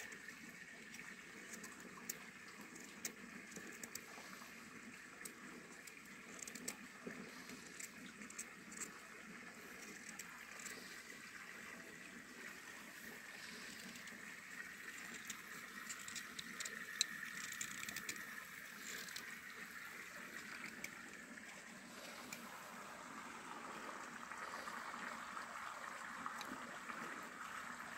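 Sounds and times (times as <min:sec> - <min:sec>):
stream running over stones: 0:00.0 - 0:27.9.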